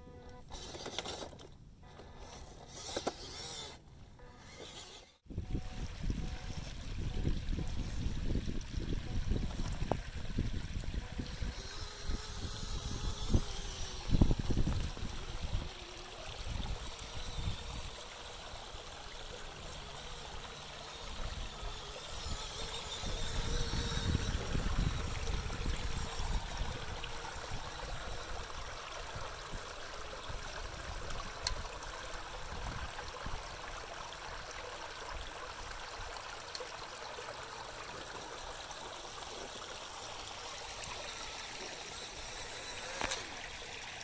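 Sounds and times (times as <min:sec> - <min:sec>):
creek water trickling over rock: 0:05.6 - 0:44.0.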